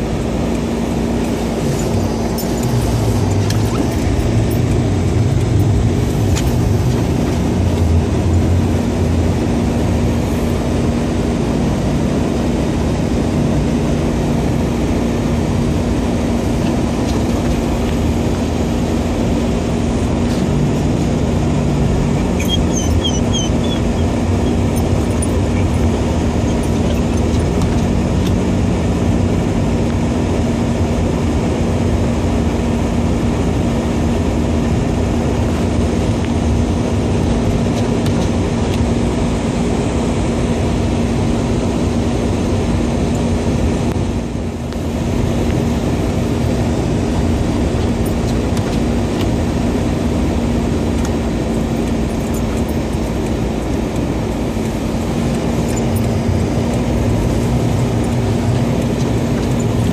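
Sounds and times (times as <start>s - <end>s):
tyre and engine rumble: 0.0s - 59.9s.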